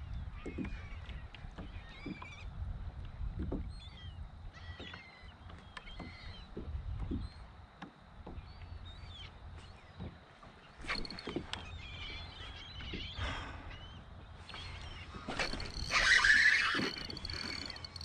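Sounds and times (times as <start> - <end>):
wind rumble on microphone: 0.0 - 18.0
faint bird calls: 0.1 - 2.5, 3.5 - 7.5, 8.2 - 18.0.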